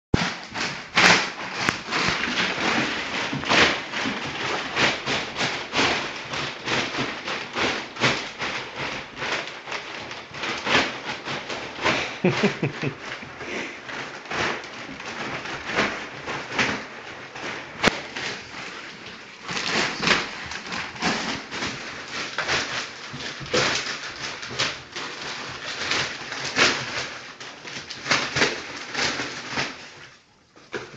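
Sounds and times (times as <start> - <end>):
packaging crinkling and tearing: 0.2 - 30.9.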